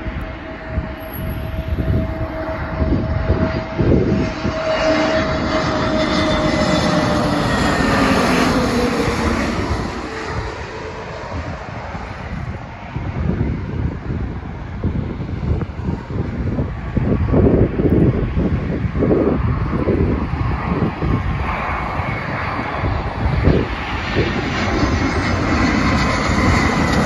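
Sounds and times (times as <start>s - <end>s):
jet passing overhead: 0.0s - 27.0s.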